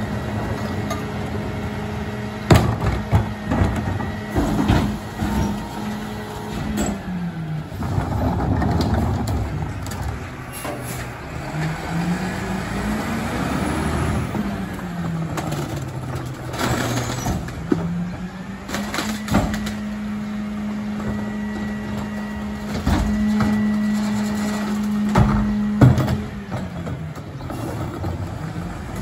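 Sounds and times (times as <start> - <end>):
garbage truck engine revving: 0.0 - 29.0.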